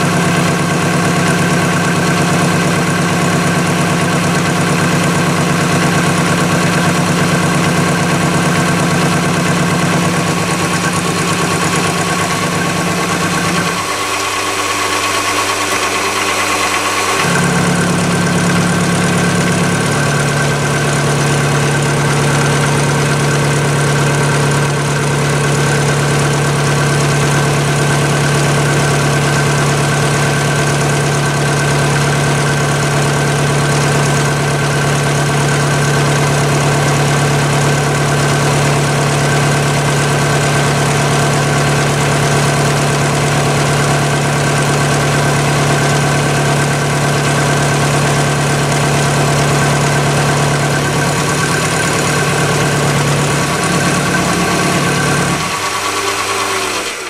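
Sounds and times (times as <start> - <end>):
lathe motor humming and whining: 0.0 - 57.0.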